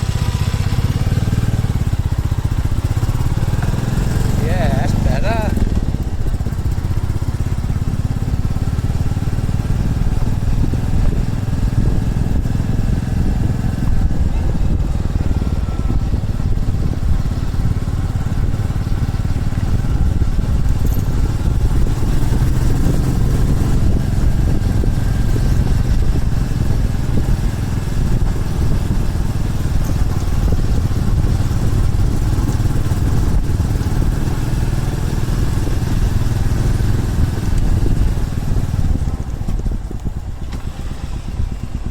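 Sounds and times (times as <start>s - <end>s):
motorcycle engine rumbling: 0.0s - 41.9s.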